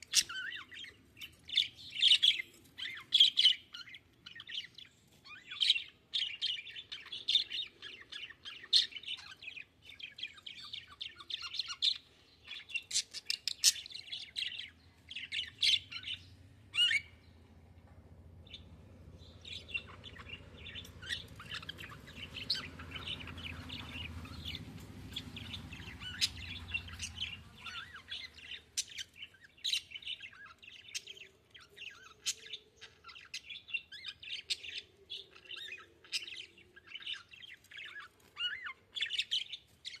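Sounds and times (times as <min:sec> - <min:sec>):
budgerigars chirping: 0:00.0 - 0:17.2, 0:19.2 - 0:40.0
faint low hum: 0:00.0 - 0:39.4.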